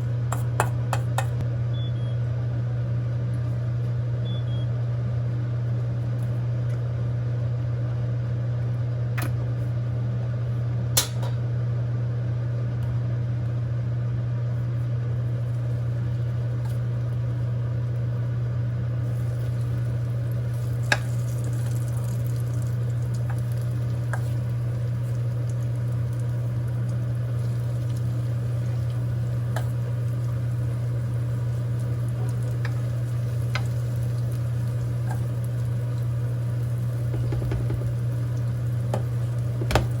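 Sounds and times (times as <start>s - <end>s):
kitchen appliance humming: 0.0s - 40.0s.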